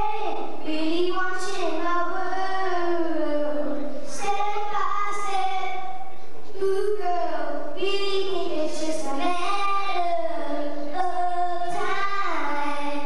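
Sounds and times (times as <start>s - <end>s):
boy singing into microphone: 0.0s - 13.0s.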